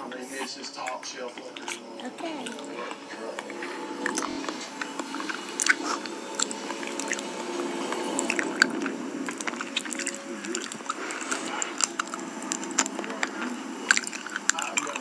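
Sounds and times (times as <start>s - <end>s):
sticky wet chewing: 0.8s - 15.0s.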